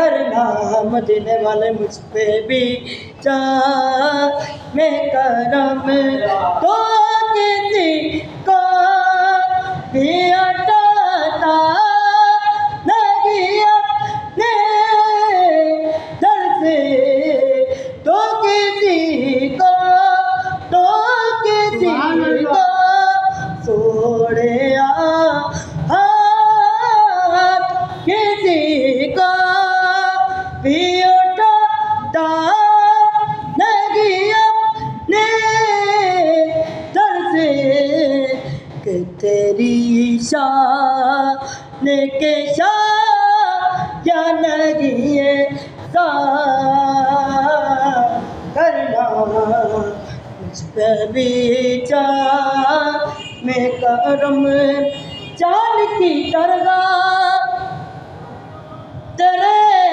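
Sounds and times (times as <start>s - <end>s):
person singing devotional song: 0.0s - 58.1s, 59.0s - 59.9s.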